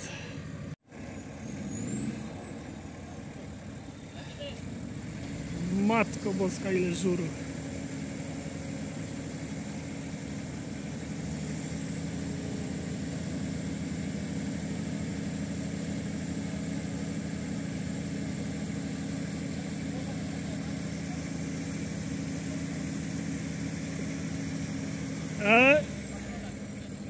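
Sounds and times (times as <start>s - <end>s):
engine idling: 0.0s - 1.4s, 2.3s - 27.0s.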